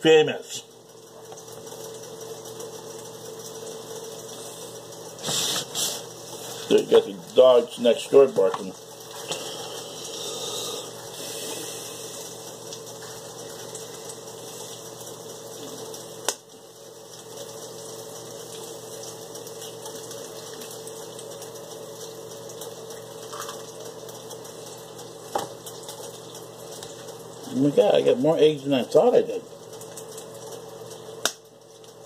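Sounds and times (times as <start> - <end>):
ham sizzling on a griddle: 0.0 - 28.2.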